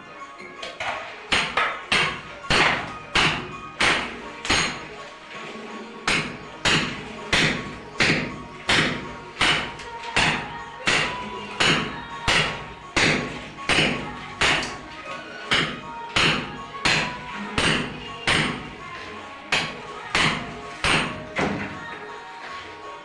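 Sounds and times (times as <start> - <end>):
music with steady drum beat: 1.3 - 5.0, 6.0 - 23.0.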